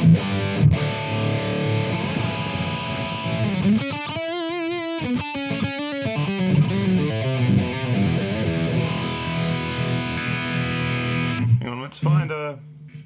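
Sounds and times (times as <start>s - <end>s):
overdriven electric guitar: 0.0s - 11.6s.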